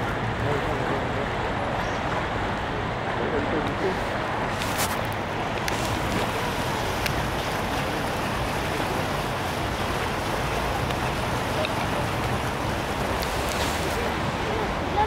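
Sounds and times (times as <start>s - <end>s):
low traffic rumble: 0.0s - 15.0s
river current rushing: 0.0s - 15.0s.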